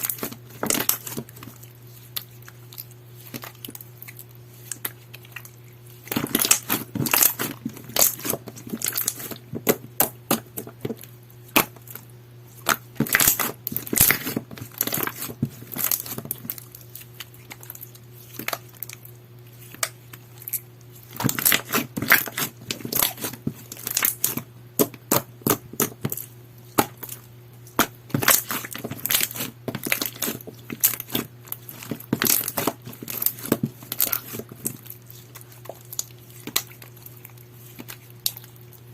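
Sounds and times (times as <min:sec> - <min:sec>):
faint steady hum: 0:00.0 - 0:38.9
slime squished by hand: 0:00.0 - 0:38.9.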